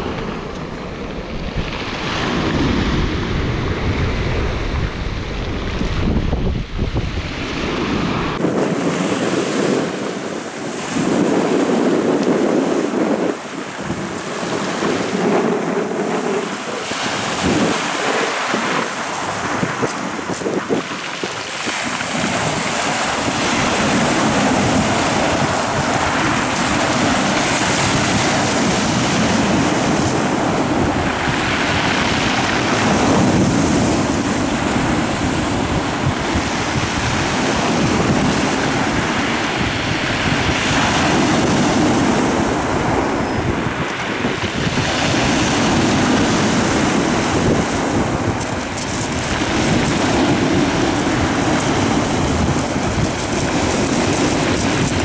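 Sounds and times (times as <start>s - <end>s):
wind on microphone: 0.0s - 55.0s
surf breaking on pebble beach: 6.9s - 55.0s.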